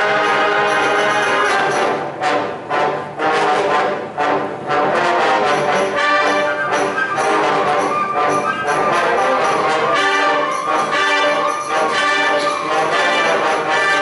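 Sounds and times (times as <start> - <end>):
wind band playing loudly: 0.0 - 14.0.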